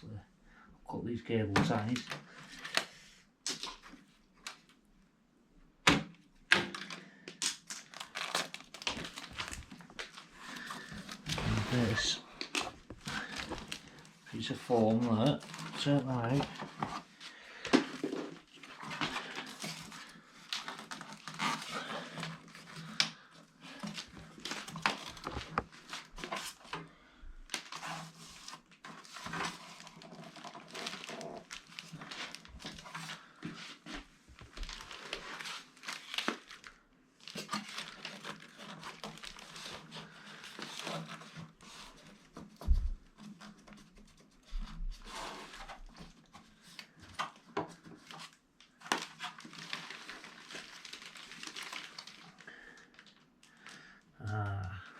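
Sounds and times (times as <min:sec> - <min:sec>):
plastic wrapping rustling and tearing: 0:01.6 - 0:04.8, 0:06.5 - 0:54.8.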